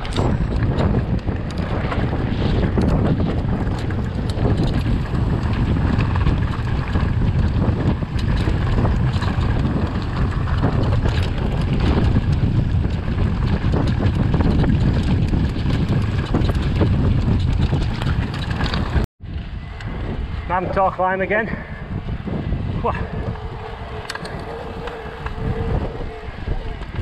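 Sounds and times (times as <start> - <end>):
bike rattling on rocky trail: 0.0 - 19.5, 22.0 - 27.0
bike tyres rumbling: 0.0 - 27.0
wind buffeting microphone: 0.0 - 27.0.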